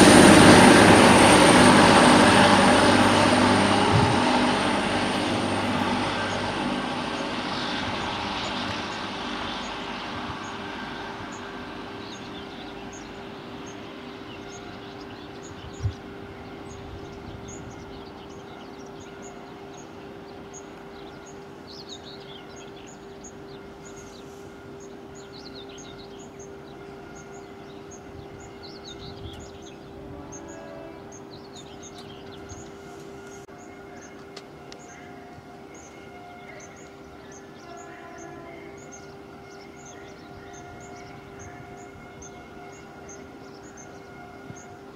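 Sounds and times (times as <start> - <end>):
birdsong and chirping: 0.0 - 44.9
train hum: 0.0 - 44.9.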